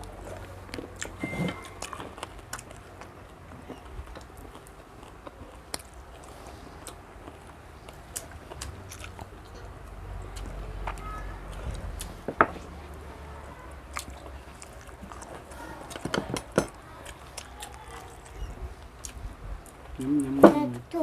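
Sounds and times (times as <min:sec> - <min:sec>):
person chewing food: 0:00.0 - 0:13.0, 0:13.8 - 0:20.4.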